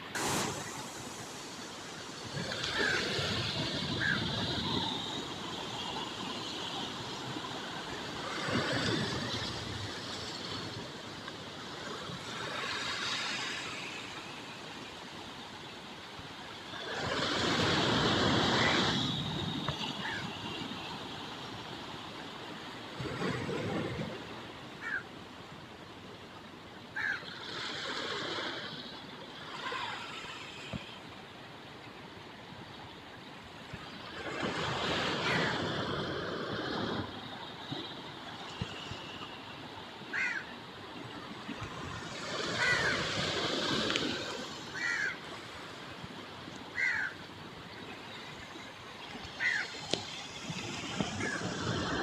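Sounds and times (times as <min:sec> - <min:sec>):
water splashing and rushing: 0:00.0 - 0:25.0, 0:33.4 - 0:52.0.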